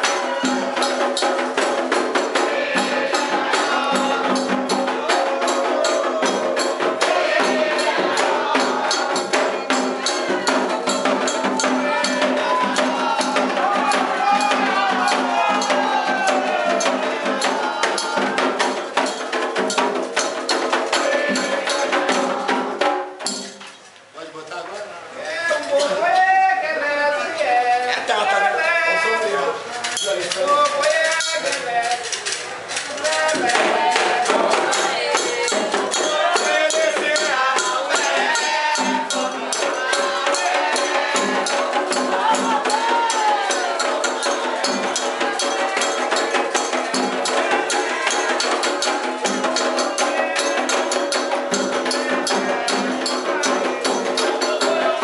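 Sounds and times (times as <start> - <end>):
voices chanting: 0.0 - 23.7, 25.0 - 55.0
people singing: 0.0 - 23.8, 25.2 - 55.0
drum strokes: 0.0 - 24.0, 29.0 - 55.0
rhythmic percussion: 0.0 - 24.1, 24.7 - 55.0.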